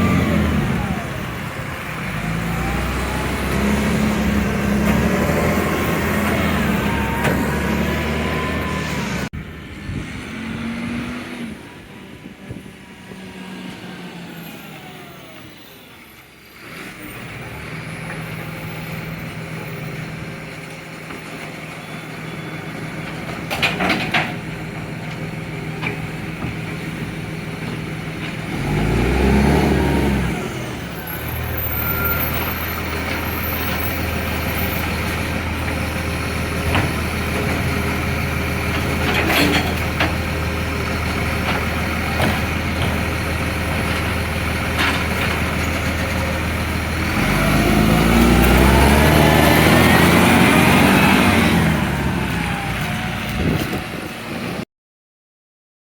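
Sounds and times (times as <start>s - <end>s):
garbage truck diesel engine: 0.0s - 54.7s.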